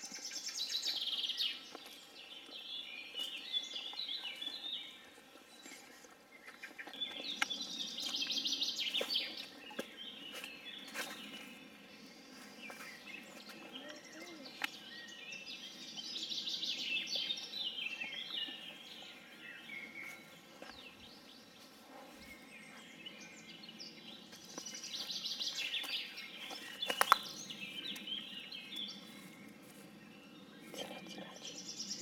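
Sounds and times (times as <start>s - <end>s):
birds singing: 0.0s - 32.0s.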